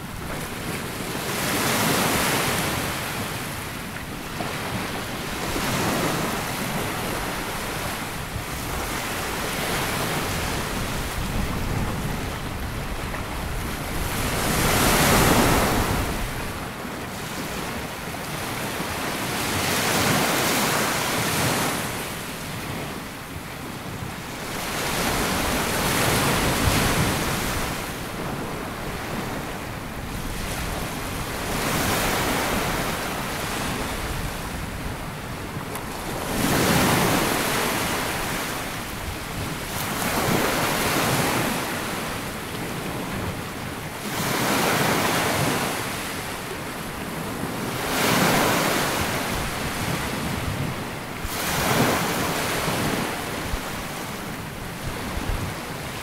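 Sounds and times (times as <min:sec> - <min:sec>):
sea waves washing up a beach: 0:00.0 - 0:56.0
wind on microphone: 0:00.0 - 0:56.0.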